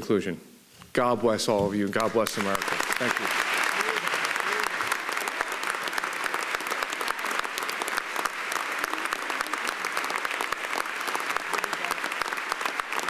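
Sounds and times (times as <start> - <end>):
crowd applauding: 2.0 - 13.0.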